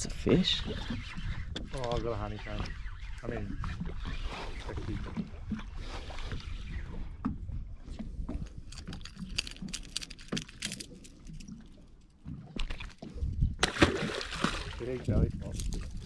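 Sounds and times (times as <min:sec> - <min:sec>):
water lapping against boat hull: 0:00.0 - 0:16.0.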